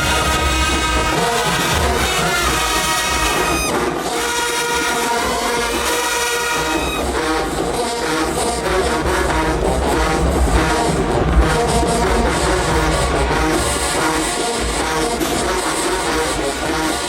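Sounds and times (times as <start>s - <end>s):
marching band brass playing: 0.0s - 17.0s.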